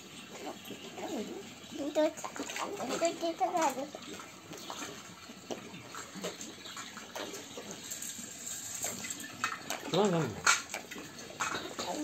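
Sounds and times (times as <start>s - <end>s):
water splashing and trickling: 0.0s - 12.0s
small surface splashes: 1.8s - 12.0s.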